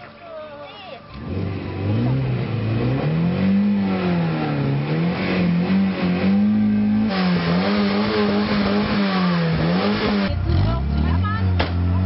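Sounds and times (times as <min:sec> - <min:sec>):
car engine revving: 0:01.1 - 0:12.0
second car engine revving: 0:01.1 - 0:12.0.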